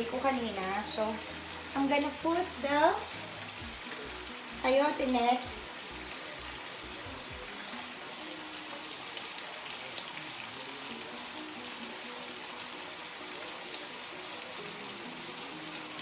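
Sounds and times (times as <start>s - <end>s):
background music: 0.0s - 16.0s
food sizzling in a pan: 0.0s - 16.0s.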